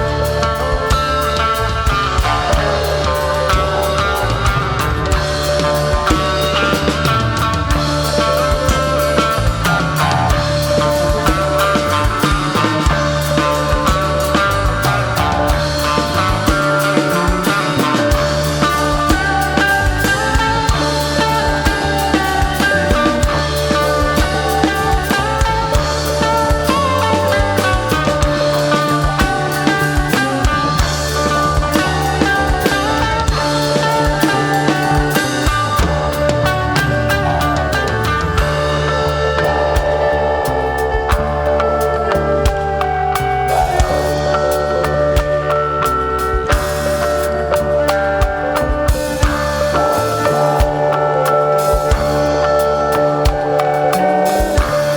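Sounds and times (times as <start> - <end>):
drums keeping a steady beat: 0.0 - 54.9
live rock band playing: 0.0 - 54.9.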